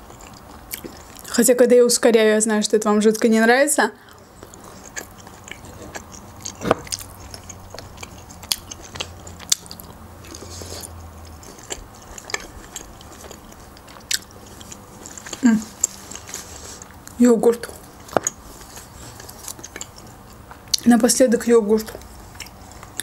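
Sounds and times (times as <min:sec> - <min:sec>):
person chewing olives: 0:00.0 - 0:01.4, 0:04.0 - 0:20.9, 0:21.8 - 0:23.0.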